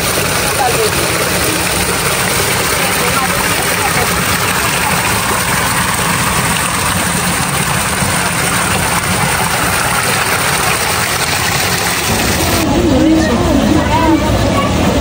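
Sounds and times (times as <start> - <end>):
spring water gushing into pool: 0.0 - 15.0.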